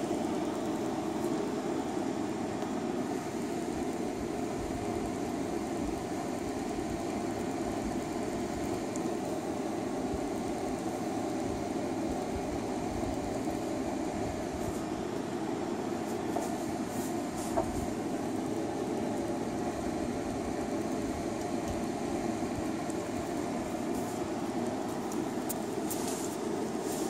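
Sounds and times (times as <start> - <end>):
steady droning noise: 0.0 - 27.0.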